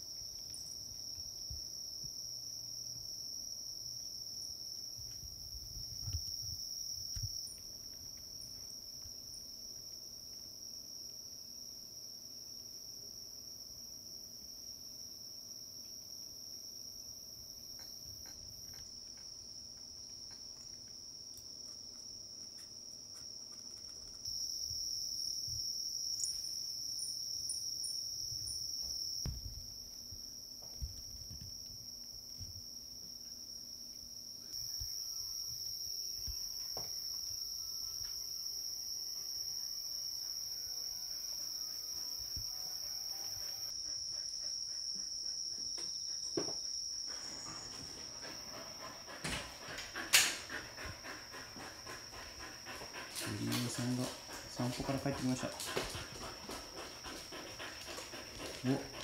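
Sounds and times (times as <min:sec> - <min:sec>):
high-pitched insect trill: 0:00.0 - 0:59.0.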